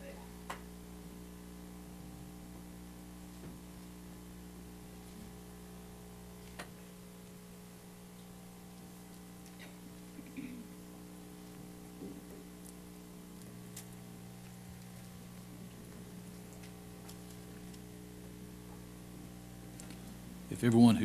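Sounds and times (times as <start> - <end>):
faint mains hum: 0.0 - 21.0.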